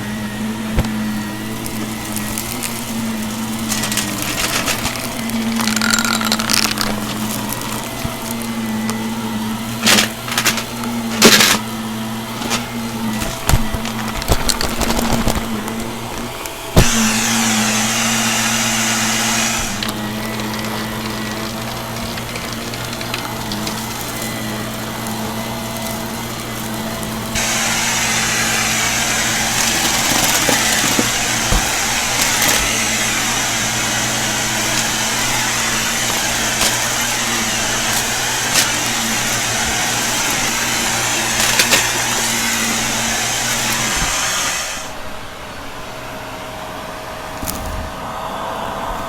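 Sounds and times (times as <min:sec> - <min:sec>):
vacuum cleaner running: 0:00.0 - 0:49.0
grit clicking in vacuum: 0:00.6 - 0:11.7, 0:12.3 - 0:44.5.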